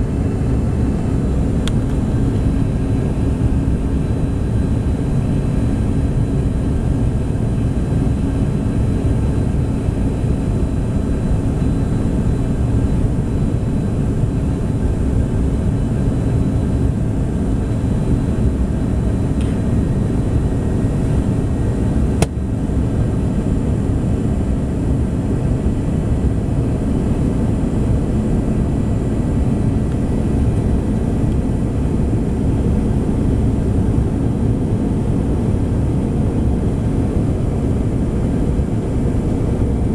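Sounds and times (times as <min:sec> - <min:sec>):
faint steady whines: 0:00.0 - 0:39.9
jet cabin engine noise: 0:00.0 - 0:39.9.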